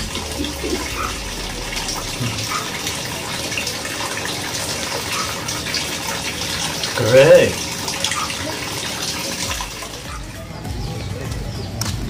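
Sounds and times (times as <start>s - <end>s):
water pouring into pond: 0.0s - 10.6s.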